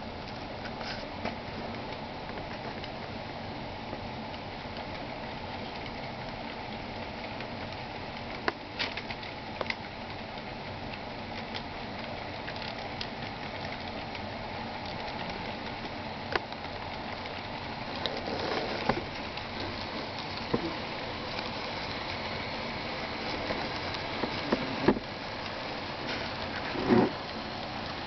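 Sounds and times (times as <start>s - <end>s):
model train running on track: 0.0s - 28.0s.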